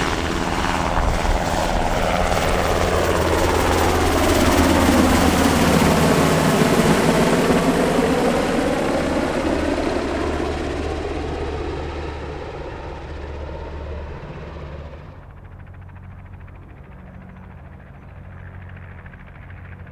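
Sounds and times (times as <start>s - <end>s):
helicopter rotors and engines: 0.0s - 19.9s.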